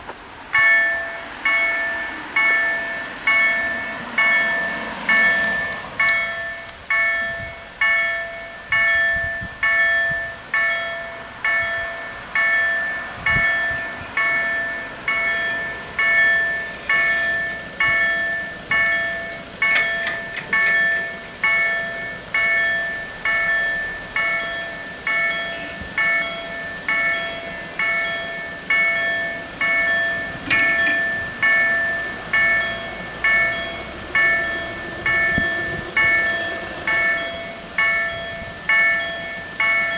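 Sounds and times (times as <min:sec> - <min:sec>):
level crossing warning bells: 0:00.5 - 0:39.9.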